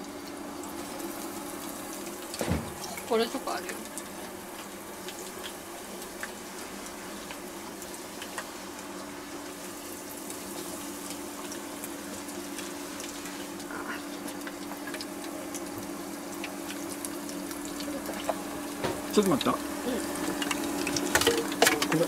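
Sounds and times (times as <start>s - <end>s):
oil sizzling with small pops: 0.0s - 22.0s.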